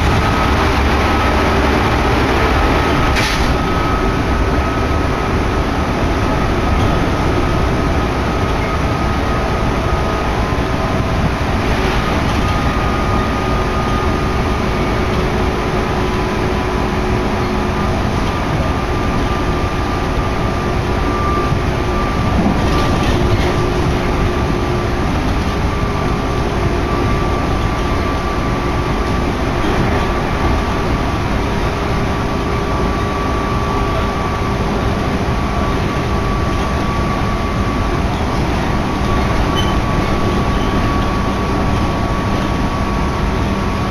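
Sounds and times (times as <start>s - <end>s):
electric train rumbling: 0.0s - 43.9s.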